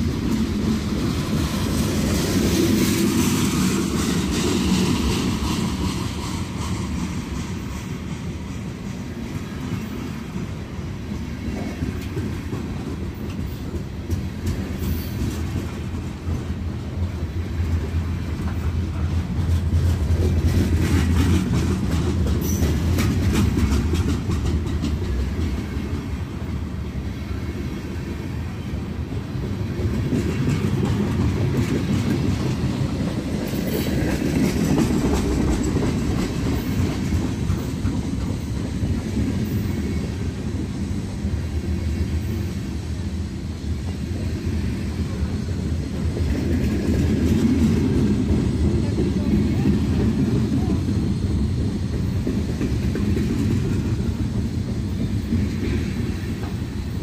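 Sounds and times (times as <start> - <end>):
steel wheels clacking over rail joints: 0.0 - 26.6, 29.0 - 42.4, 45.0 - 57.0
freight train rumbling past: 0.0 - 57.0.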